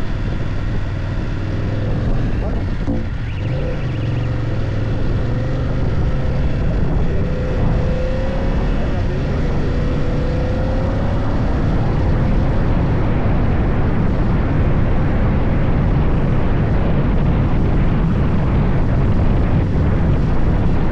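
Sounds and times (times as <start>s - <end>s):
motorcycle engine rumble: 0.0s - 20.9s
wind noise: 0.0s - 20.9s.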